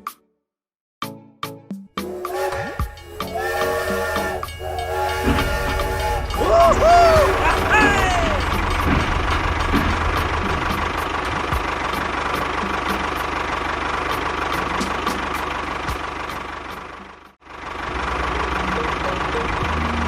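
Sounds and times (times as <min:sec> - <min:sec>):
small engine running: 0:02.1 - 0:20.0.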